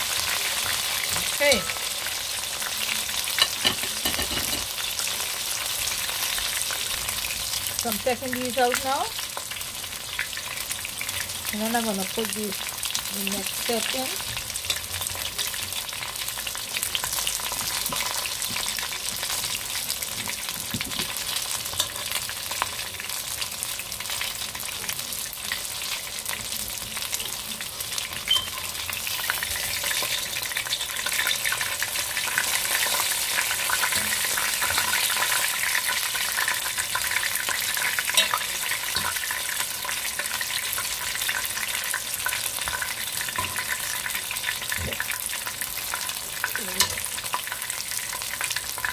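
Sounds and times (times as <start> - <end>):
chicken deep-frying in oil: 0.0 - 48.9.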